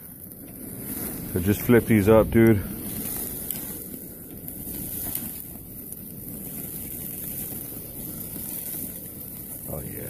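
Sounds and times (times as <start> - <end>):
charcoal fire low rumble: 0.0 - 10.0
fire crackles: 0.0 - 10.0.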